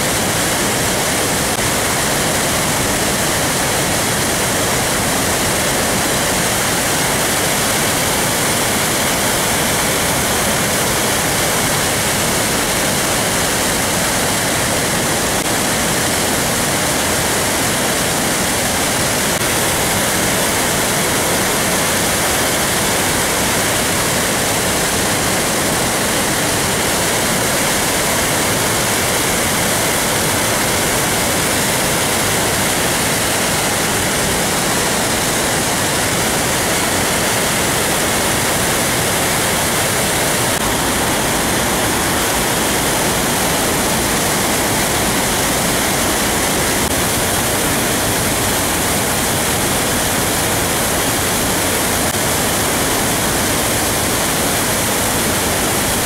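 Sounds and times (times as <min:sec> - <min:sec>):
water rushing through spillway: 0:00.0 - 0:56.0.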